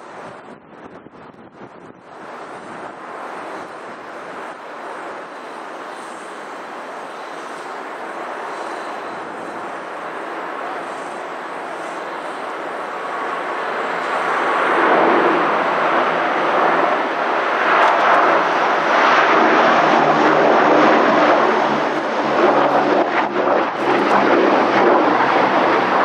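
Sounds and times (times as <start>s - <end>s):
turboprop aircraft taking off: 0.0s - 26.0s.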